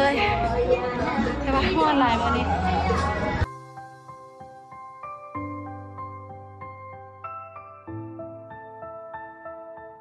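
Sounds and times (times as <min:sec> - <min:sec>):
soft piano-like keyboard melody: 0:00.0 - 0:10.0.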